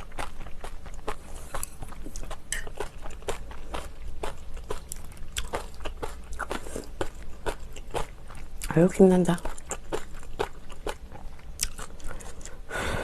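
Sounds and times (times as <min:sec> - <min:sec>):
chewing and wet mouth sounds: 0:00.0 - 0:12.7.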